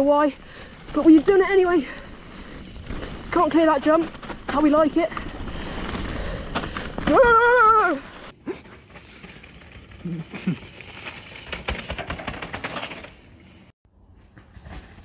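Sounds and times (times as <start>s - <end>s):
bike tyres on dirt: 0.0s - 15.0s.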